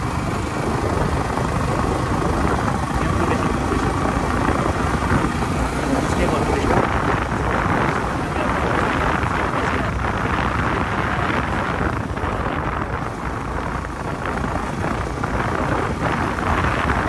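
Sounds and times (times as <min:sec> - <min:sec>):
motorcycle engine: 0:00.0 - 0:17.0
road noise: 0:00.0 - 0:17.0
wind rushing over microphone: 0:00.0 - 0:17.0.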